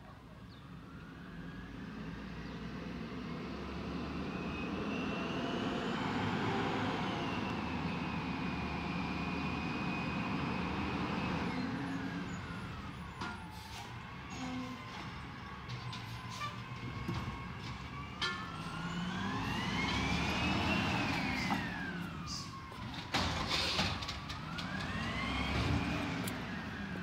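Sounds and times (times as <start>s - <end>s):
garbage truck engine and road noise: 0.0s - 27.0s.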